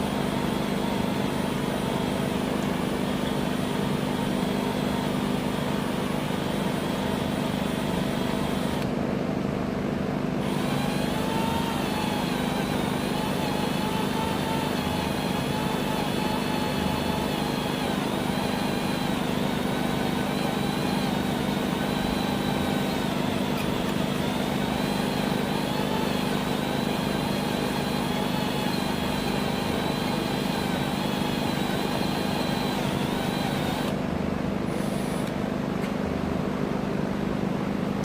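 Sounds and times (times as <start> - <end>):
power drill boring through steel: 0.0 - 8.9, 10.4 - 34.0.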